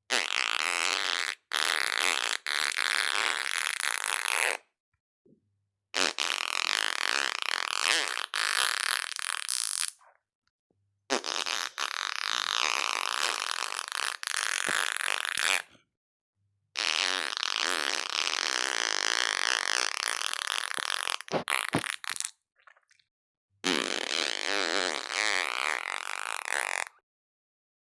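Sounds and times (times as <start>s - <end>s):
farting: 0.1s - 4.6s, 6.0s - 10.0s, 11.1s - 15.7s, 16.8s - 22.8s, 23.6s - 27.0s.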